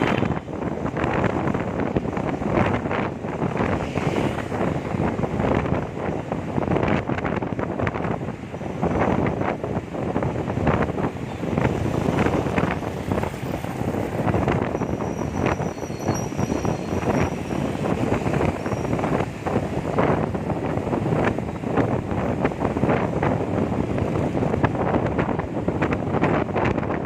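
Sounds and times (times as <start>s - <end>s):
road traffic: 0.0s - 27.0s
wind buffeting microphone: 0.0s - 27.0s.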